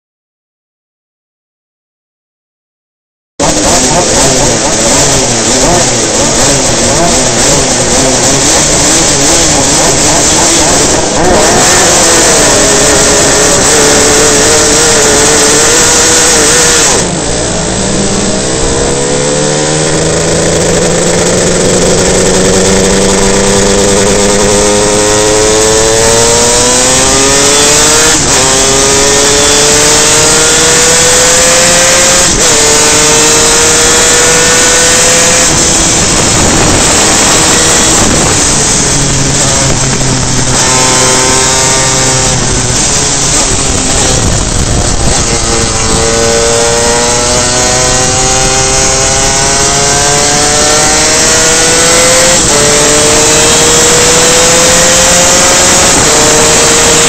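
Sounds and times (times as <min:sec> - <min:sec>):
rush of wind: 0:03.4 - 0:57.0
two-stroke engine accelerating: 0:03.4 - 0:57.0.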